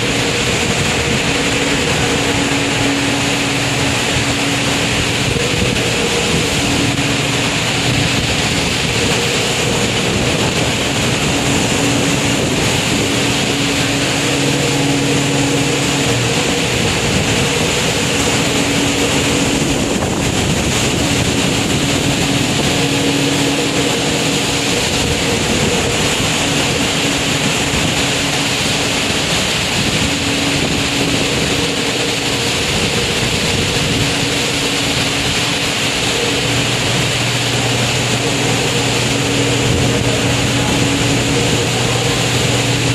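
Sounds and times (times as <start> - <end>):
low machinery hum: 0.0 - 42.9
rush of wind and sea: 0.0 - 42.9.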